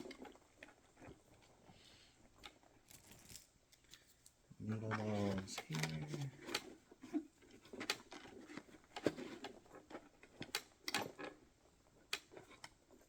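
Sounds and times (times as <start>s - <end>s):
soft handling noise: 0.0s - 13.0s.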